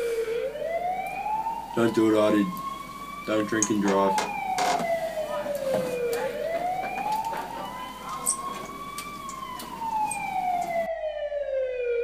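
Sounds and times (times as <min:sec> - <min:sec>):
background hiss: 0:00.0 - 0:10.9
emergency siren wailing: 0:00.0 - 0:12.0.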